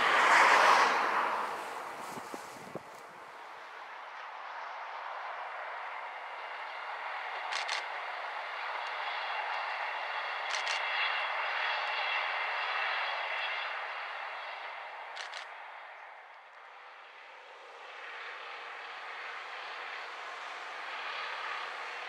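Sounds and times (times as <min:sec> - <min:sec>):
train engine and wheels rumble: 0:00.0 - 0:22.0.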